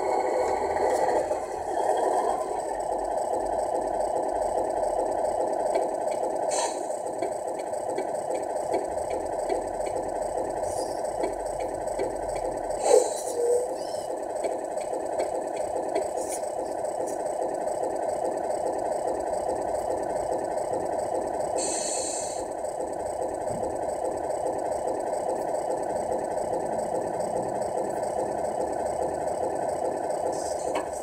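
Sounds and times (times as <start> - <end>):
simulated diesel engine idling: 0.0 - 31.0.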